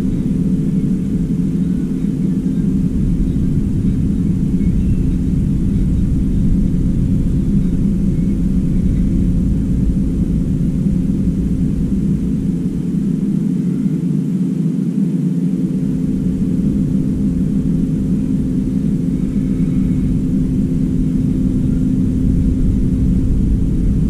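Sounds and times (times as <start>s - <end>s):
constant droning tone: 0.0s - 24.0s
mechanical hum and rumble: 0.0s - 24.0s.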